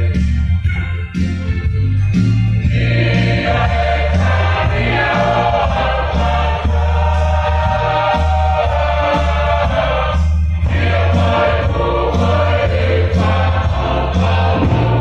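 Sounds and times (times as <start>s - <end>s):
deep bass accompaniment: 0.0s - 15.0s
group singing in chorus: 2.7s - 15.0s.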